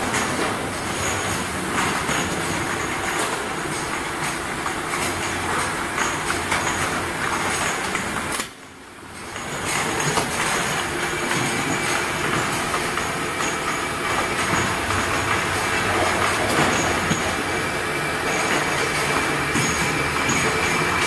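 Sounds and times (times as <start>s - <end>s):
bottle washing machine clattering: 0.0s - 21.0s.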